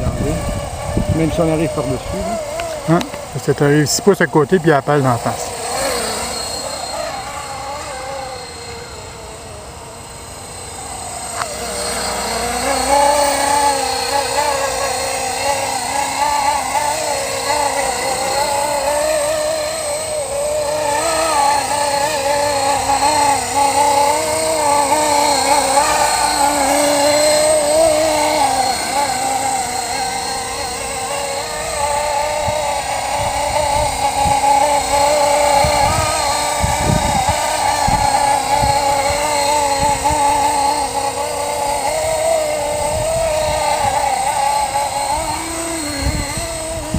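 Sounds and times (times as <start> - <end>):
rc helicopter rotor whine: 0.0 - 46.9.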